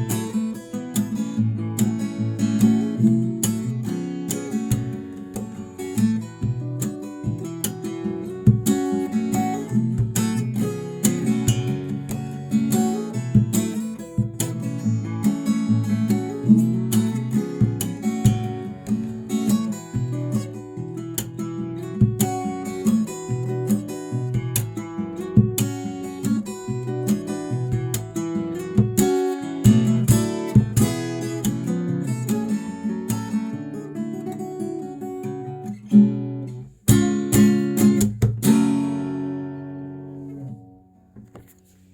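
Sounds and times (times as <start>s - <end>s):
fingerstyle acoustic guitar: 0.0s - 41.9s.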